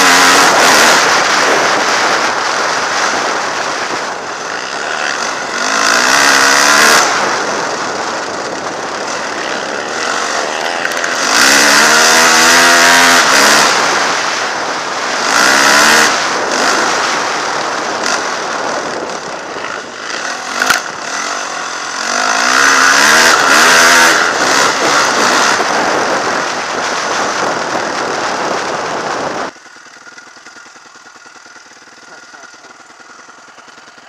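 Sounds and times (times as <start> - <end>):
wind rush on helmet: 0.0 - 30.0
dirt bike engine revving: 0.0 - 34.0
dirt bikes idling: 0.0 - 34.0.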